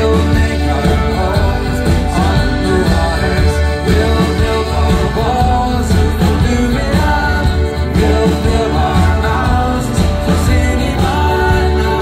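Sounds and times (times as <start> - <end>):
acoustic guitar: 0.0 - 12.0
bass line: 0.0 - 12.0
drum kit: 0.0 - 12.0.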